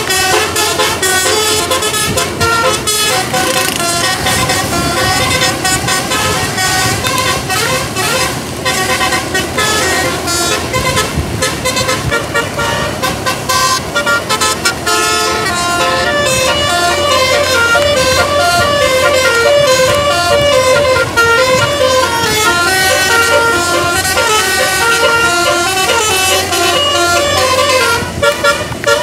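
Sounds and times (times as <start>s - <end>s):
bus musical air horn: 0.0s - 29.0s
road traffic noise: 0.0s - 29.0s.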